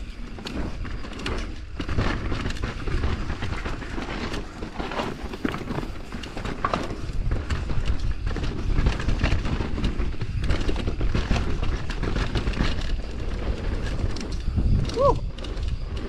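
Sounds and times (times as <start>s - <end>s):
bike rattling: 0.0s - 16.0s
tyres rumbling over dirt: 0.0s - 16.0s
wind buffeting microphone: 0.0s - 16.0s.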